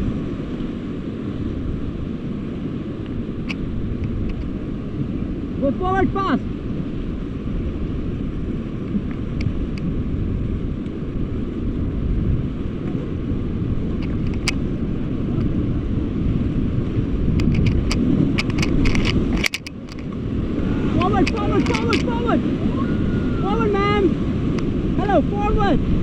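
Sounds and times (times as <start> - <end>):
rushing whitewater: 0.0 - 26.0
wind buffeting microphone: 0.0 - 26.0.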